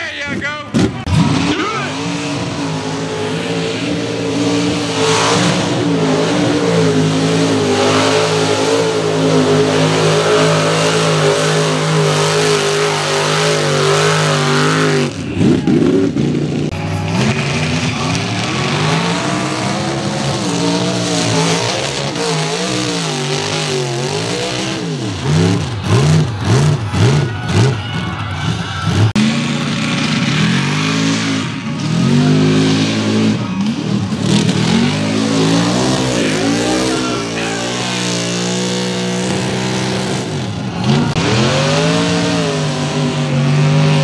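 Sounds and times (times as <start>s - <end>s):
truck engines revving hard: 0.0s - 44.0s.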